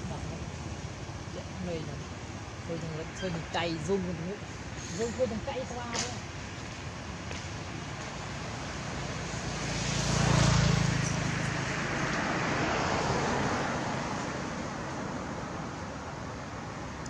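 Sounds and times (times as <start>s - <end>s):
passing vehicle engine: 0.0s - 17.0s.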